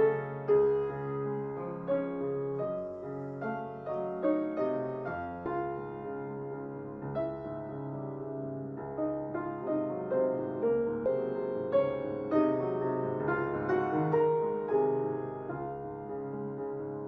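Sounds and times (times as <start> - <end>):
slow solo piano: 0.0 - 17.0.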